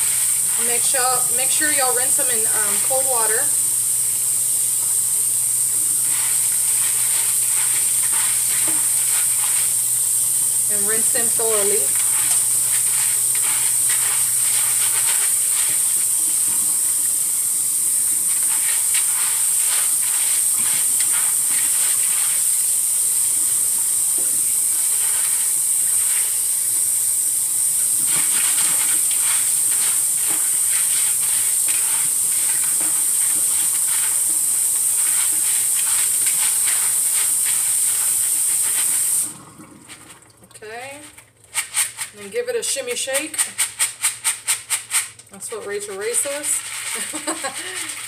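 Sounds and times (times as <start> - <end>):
tap water running into sink: 0.0 - 42.2.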